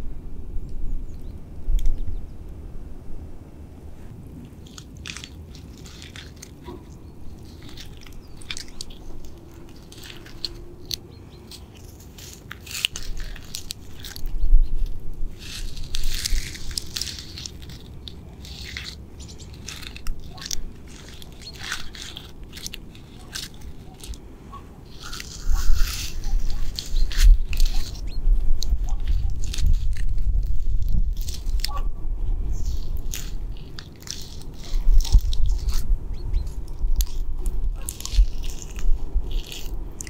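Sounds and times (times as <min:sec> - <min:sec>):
bark being scratched: 0:04.7 - 0:40.0.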